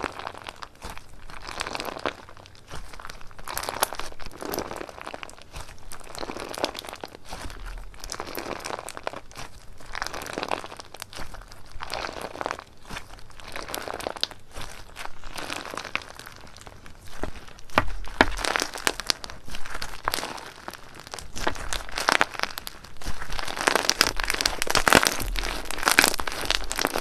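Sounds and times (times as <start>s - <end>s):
slime squeezed by hand crackling: 0.0s - 27.0s.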